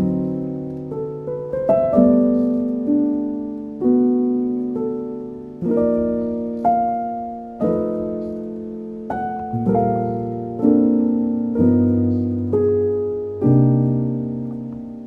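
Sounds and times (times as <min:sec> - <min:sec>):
slow calm piano chords: 0:00.0 - 0:15.0.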